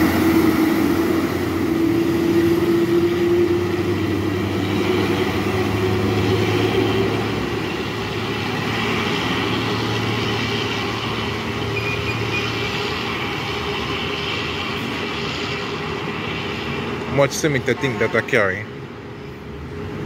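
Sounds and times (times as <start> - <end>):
diesel truck engines humming: 0.0 - 20.0
higher engine tone: 0.0 - 20.0.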